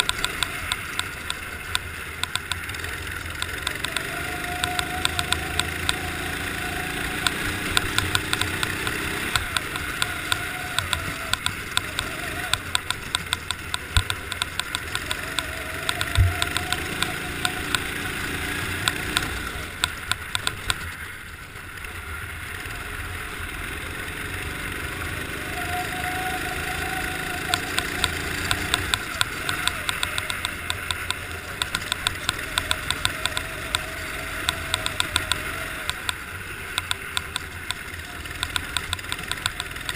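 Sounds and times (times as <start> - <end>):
rapid clicking clatter: 0.0 - 21.7, 27.4 - 39.9
go-kart engine revving: 0.0 - 39.9.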